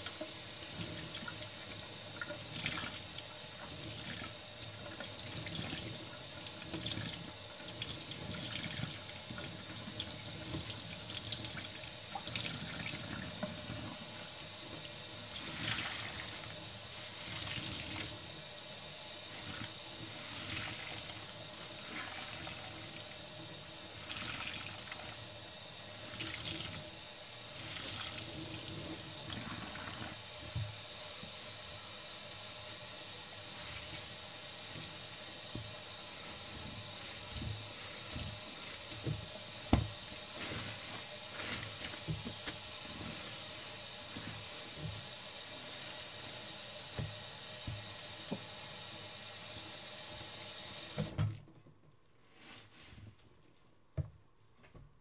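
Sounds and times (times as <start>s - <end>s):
tap water running into sink: 0.0s - 31.6s, 32.5s - 51.4s.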